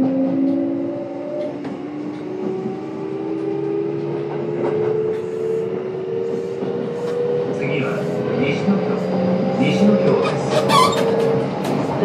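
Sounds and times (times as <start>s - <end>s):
train inverter and motors whining: 0.0s - 12.0s.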